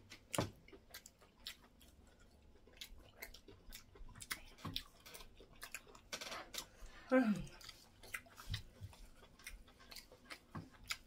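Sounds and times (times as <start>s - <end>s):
chewing mouth sounds: 0.0s - 11.0s.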